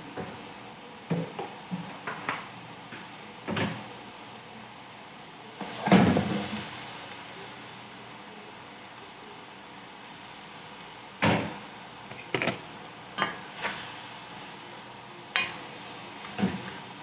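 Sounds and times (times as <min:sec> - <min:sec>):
soft sizzling hiss: 0:00.0 - 0:17.0.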